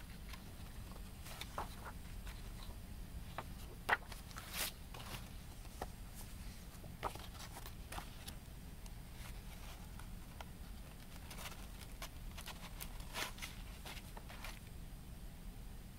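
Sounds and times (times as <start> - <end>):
card rustling and clicking: 0.1 - 6.0, 6.6 - 8.5, 9.1 - 14.7.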